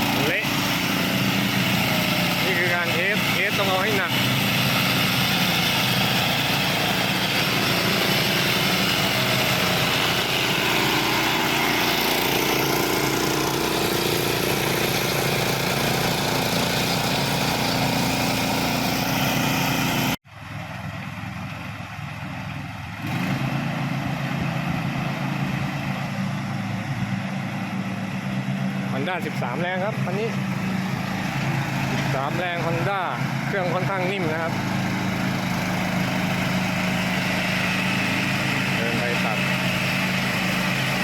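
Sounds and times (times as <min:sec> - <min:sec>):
mower engine running: 0:00.0 - 0:41.0.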